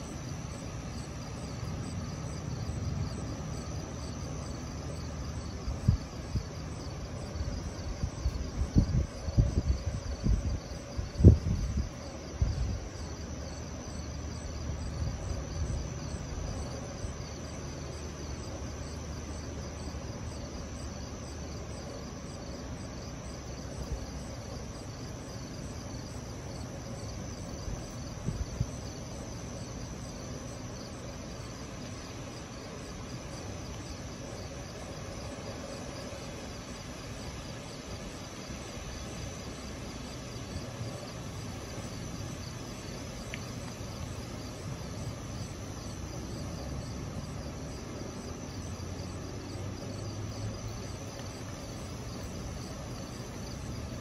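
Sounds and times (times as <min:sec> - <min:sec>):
insects chirring: 0:00.0 - 0:54.0
low background noise: 0:00.0 - 0:54.0.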